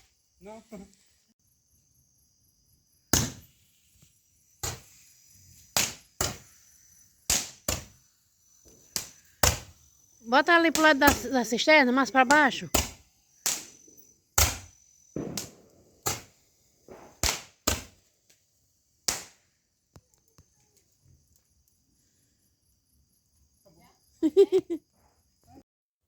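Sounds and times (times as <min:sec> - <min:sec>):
faint high insect chirring: 0:00.0 - 0:25.6.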